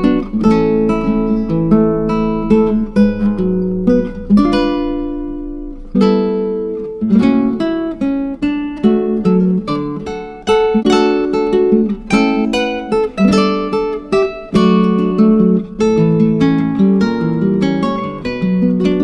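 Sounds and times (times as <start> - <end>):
acoustic guitar plucking: 0.0 - 19.0.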